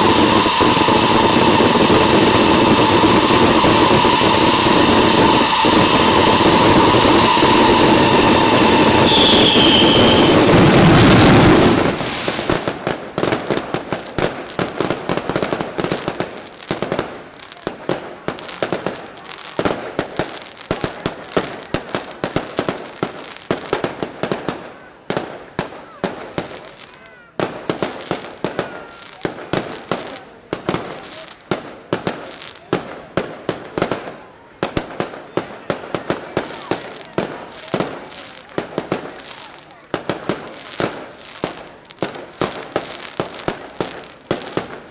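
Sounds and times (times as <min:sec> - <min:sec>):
firecracker bangs: 0:00.0 - 0:26.8, 0:27.4 - 0:44.9.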